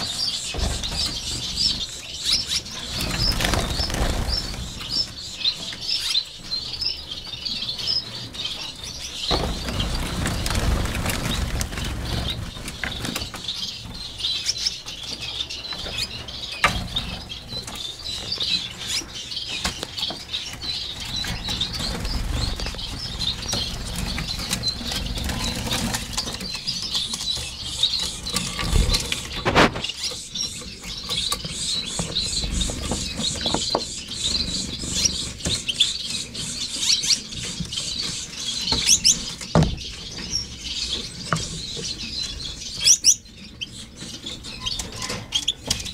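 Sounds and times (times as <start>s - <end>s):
finches chirping and twittering: 0.0s - 45.9s.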